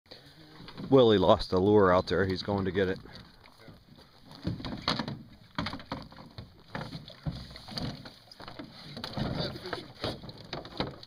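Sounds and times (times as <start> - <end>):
canoe hull grinding on rocks: 0.6 - 11.0
paddle clunking against boat: 0.6 - 11.0.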